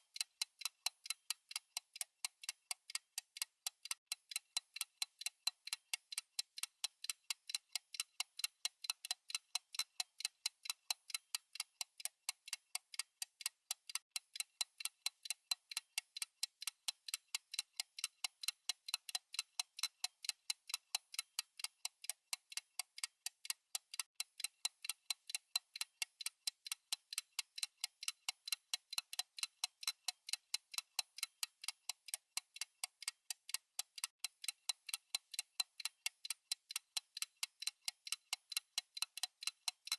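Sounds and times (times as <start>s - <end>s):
fast clock ticking: 0.0s - 39.9s.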